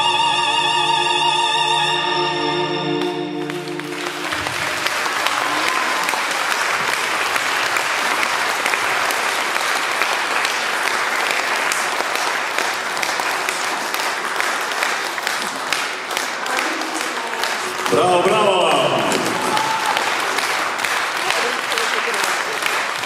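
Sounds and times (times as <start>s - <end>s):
audience applauding: 2.9s - 23.0s.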